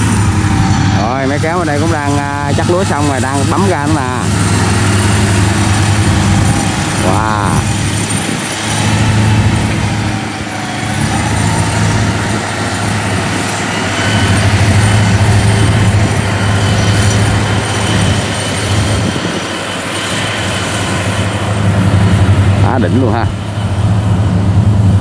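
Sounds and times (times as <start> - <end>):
harvester engine droning: 0.0 - 25.0.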